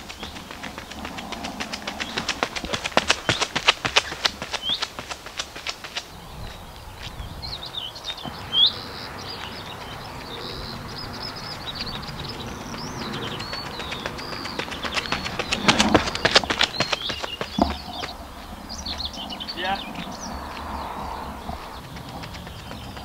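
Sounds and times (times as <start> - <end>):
birdsong chirps and warbles: 0.0 - 23.0
running footsteps on gravel: 0.0 - 23.0.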